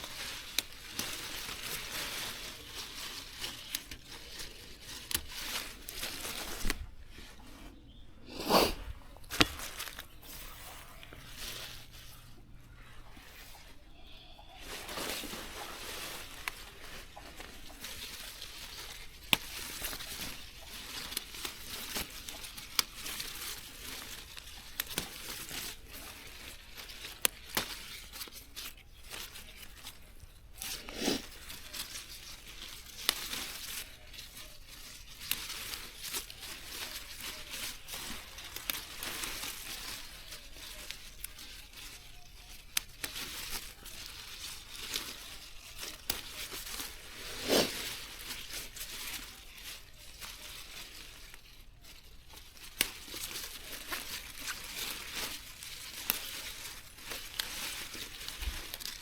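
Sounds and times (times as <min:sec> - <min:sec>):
rustling and crinkling: 0:00.0 - 0:59.0.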